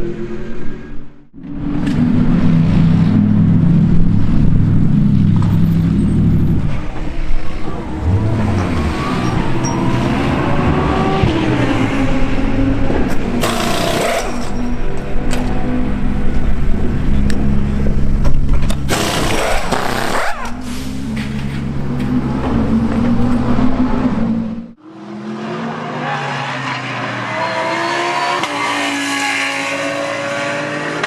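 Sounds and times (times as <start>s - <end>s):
race car engine accelerating: 1.4s - 20.6s, 21.2s - 31.0s.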